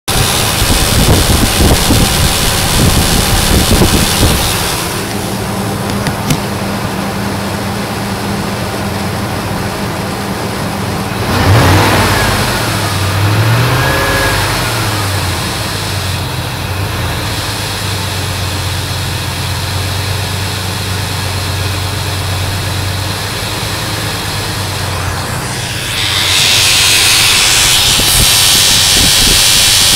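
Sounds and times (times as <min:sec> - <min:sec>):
engine running with buzzing: 0:00.1 - 0:29.9.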